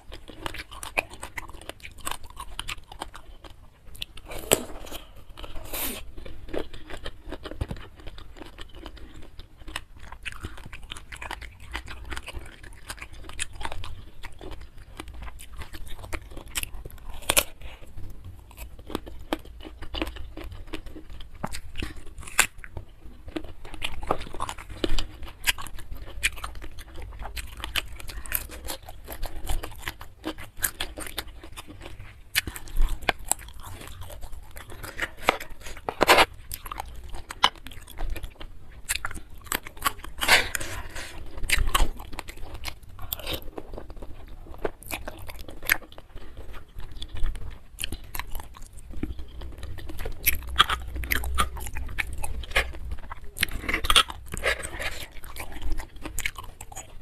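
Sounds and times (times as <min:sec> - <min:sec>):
person chewing with crisp crunches: 0:00.0 - 0:57.0.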